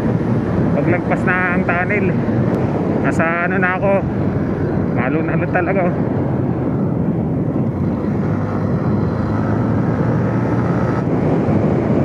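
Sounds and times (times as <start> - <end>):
wind and road noise: 0.0 - 12.0
motorcycle engine cruising: 2.2 - 12.0.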